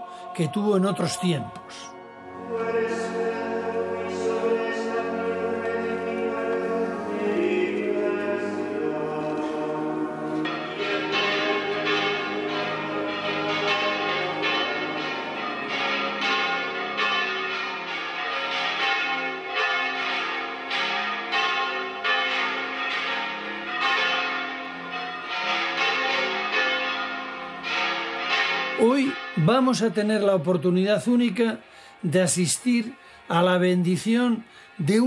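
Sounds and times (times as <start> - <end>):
church bells ringing a peal: 0.0 - 35.0.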